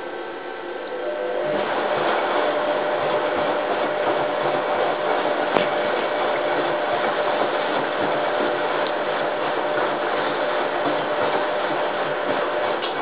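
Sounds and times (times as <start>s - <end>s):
washing machine motor whining: 0.0s - 13.0s.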